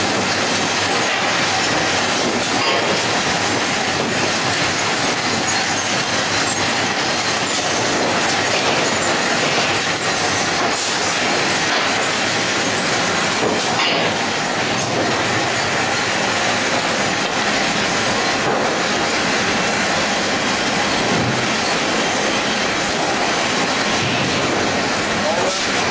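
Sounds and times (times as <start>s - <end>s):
sawmill conveyors running: 0.0s - 25.9s.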